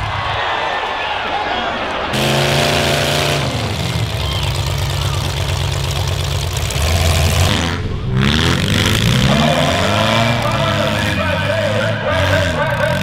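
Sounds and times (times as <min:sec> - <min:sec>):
car engines running: 0:01.4 - 0:13.0
deep strong engine note: 0:02.1 - 0:13.0.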